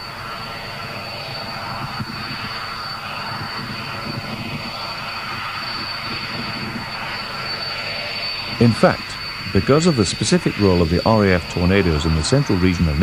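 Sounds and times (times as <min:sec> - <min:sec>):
jet engine high whine: 0:00.0 - 0:13.0
jet engine roar: 0:00.0 - 0:13.0.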